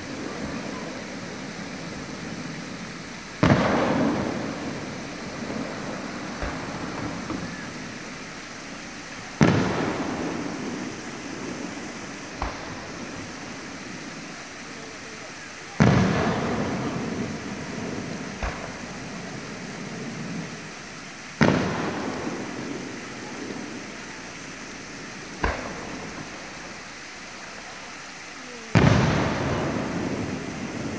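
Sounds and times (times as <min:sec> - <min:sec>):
firework boom: 0:00.0 - 0:27.6, 0:28.7 - 0:30.9
faint low firework thud: 0:00.3 - 0:20.7, 0:21.4 - 0:24.2, 0:25.3 - 0:26.8, 0:28.7 - 0:30.9.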